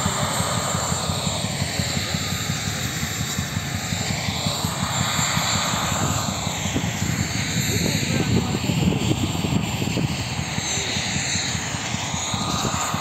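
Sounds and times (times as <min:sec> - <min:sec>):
helicopter engine rush: 0:00.0 - 0:13.0
helicopter rotor beat: 0:00.0 - 0:13.0.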